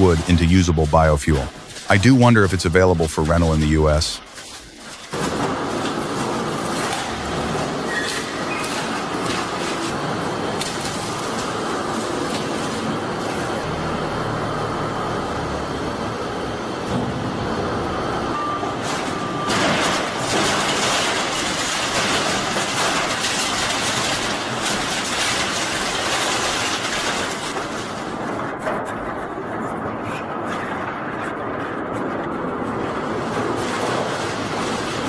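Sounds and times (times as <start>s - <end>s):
heavy machinery running: 5.2s - 35.0s.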